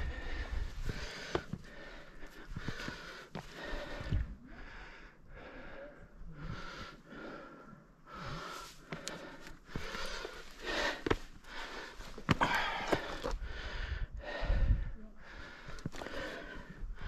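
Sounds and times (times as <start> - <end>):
climber breathing hard: 0.0 - 17.0.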